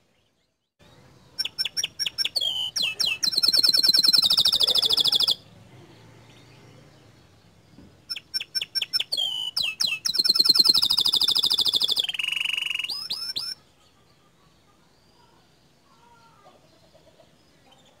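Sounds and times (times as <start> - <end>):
canary singing: 0.8 - 15.4.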